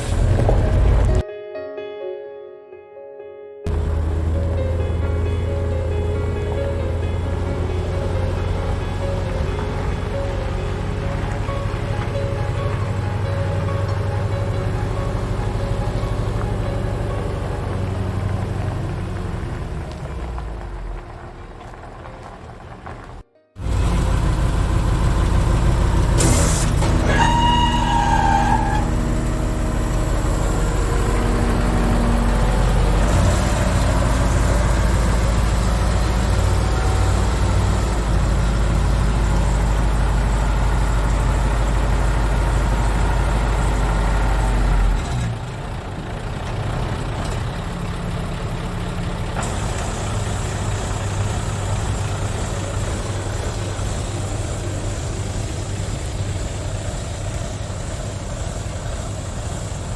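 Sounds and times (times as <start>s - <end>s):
diesel engine running: 0.0s - 1.2s, 3.7s - 59.9s.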